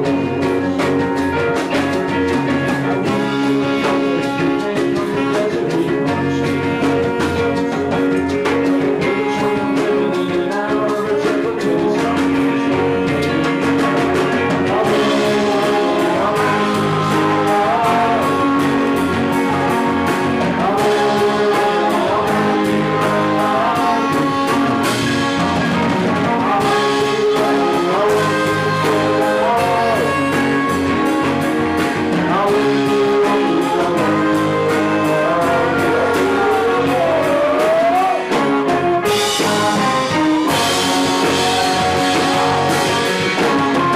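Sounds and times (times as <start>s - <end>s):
live rock band playing: 0.0s - 43.9s
sliding lead guitar line: 0.0s - 43.9s.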